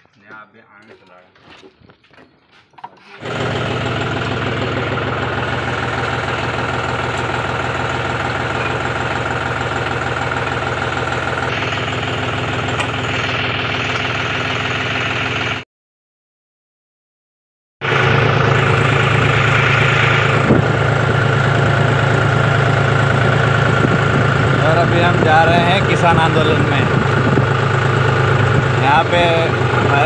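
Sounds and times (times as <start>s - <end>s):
tractor diesel engine running: 0.0s - 15.6s, 17.8s - 30.0s.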